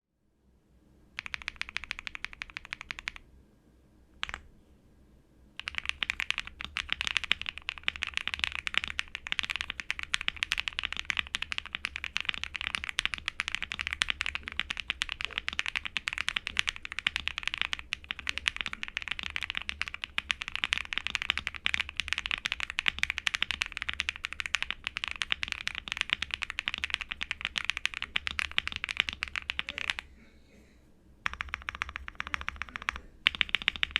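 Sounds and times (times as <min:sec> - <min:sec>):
mechanical keyboard typing: 0:01.2 - 0:03.2, 0:04.2 - 0:04.4, 0:05.6 - 0:30.0, 0:31.2 - 0:33.9.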